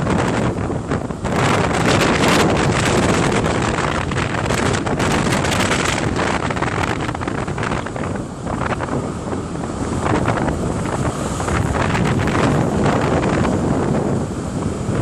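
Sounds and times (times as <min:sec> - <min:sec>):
rush of open sea: 0:00.0 - 0:15.0
strong wind buffeting microphone: 0:00.0 - 0:15.0.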